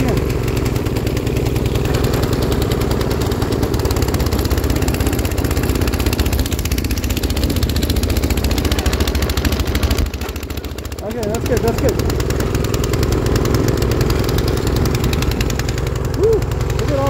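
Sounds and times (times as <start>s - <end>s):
snowblower engine running: 0.0s - 17.0s.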